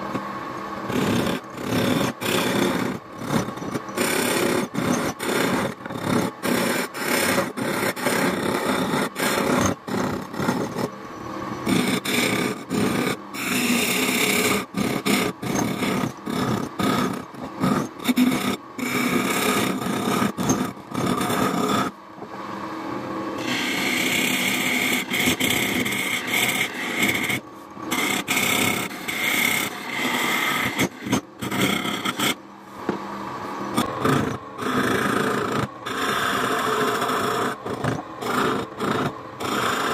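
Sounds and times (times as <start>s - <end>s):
chisel scraping wood on lathe: 0.9s - 11.0s, 11.6s - 22.0s, 23.4s - 32.4s, 33.7s - 39.9s.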